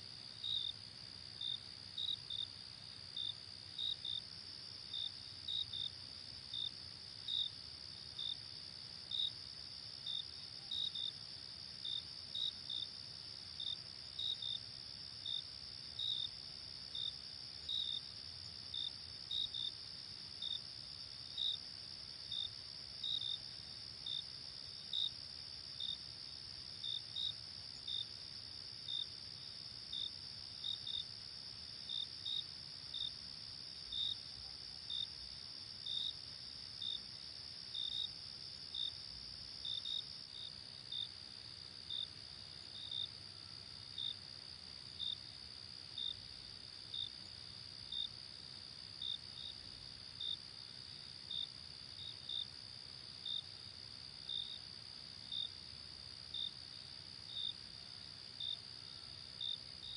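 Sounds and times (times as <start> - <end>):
insect chirps: 0.0 - 59.9.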